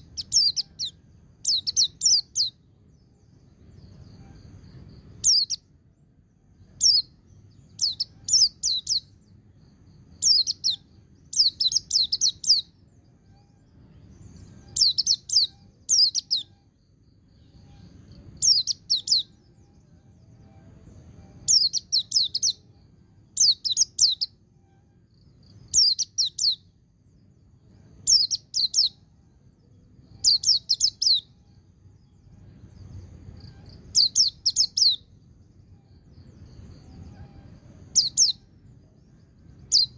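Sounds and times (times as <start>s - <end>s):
faint low rumble: 0.0s - 39.9s.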